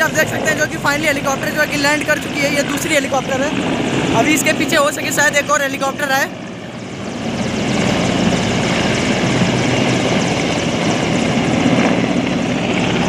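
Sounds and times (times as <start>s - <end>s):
helicopter flying low: 0.0s - 13.0s.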